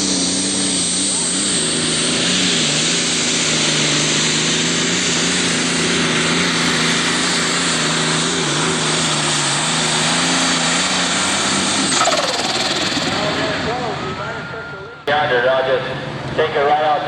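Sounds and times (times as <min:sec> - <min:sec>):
tractor engine running flat out: 0:00.0 - 0:17.0.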